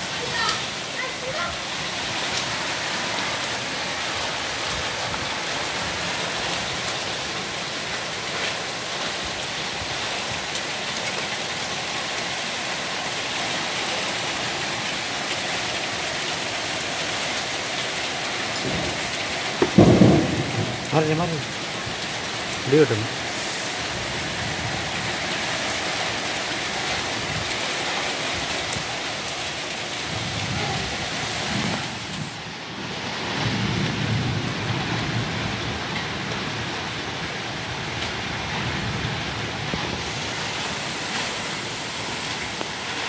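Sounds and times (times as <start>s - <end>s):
wind thrashing palm fronds: 0.0s - 43.0s.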